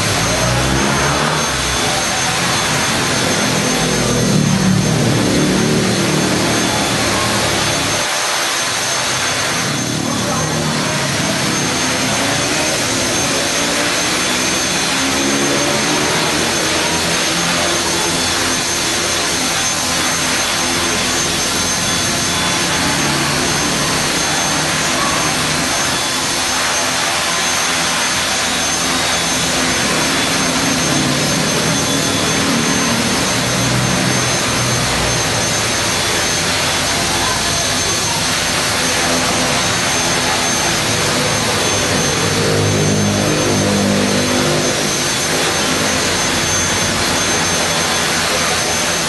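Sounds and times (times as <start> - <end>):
rc helicopter motor whine: 0.0 - 49.0.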